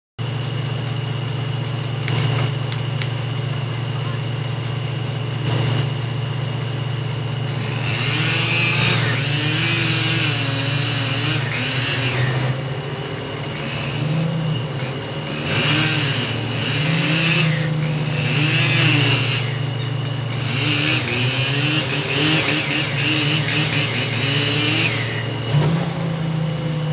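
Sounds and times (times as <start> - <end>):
chainsaw running at high speed: 0.3 - 26.3.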